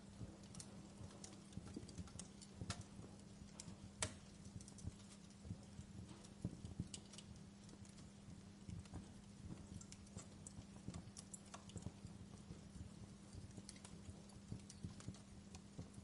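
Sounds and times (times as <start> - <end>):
faint low hum: 0.0 - 16.0
wood fire crackling and popping: 0.0 - 16.0.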